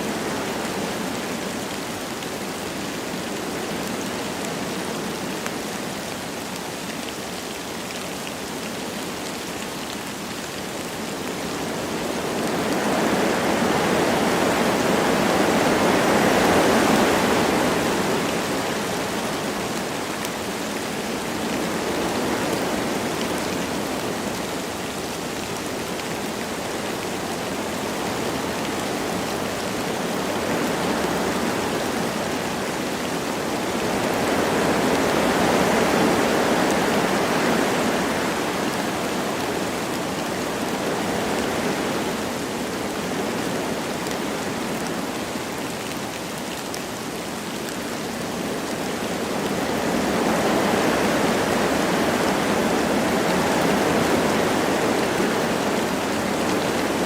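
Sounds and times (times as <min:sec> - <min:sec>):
light rain falling: 0:00.0 - 0:57.0
wind blowing through trees: 0:00.0 - 0:57.0.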